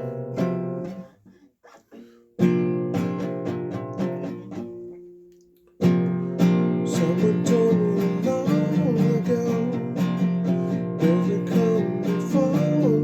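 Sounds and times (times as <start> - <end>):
guitar chords strummed: 0.0 - 1.1, 2.4 - 13.0.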